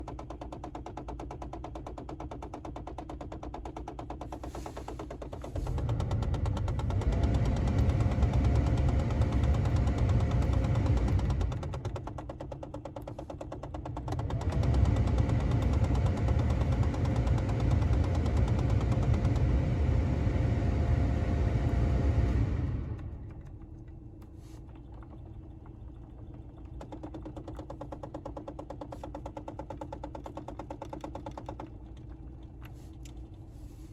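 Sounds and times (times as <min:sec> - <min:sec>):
car heater rattling: 0:00.1 - 0:21.2, 0:21.8 - 0:33.9.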